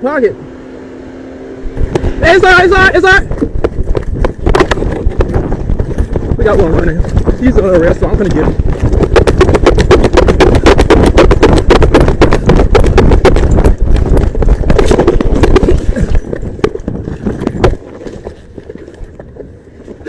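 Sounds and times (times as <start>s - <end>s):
wind buffeting microphone: 1.6s - 20.0s
camera rattling: 1.8s - 20.0s
fast running footsteps: 1.8s - 20.0s.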